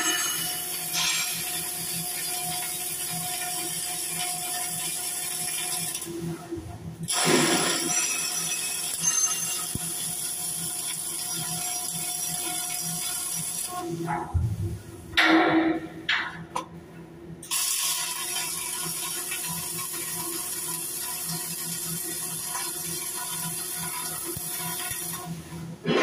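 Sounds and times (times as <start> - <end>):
welding arc crackling: 0.0 - 14.2, 17.4 - 26.0.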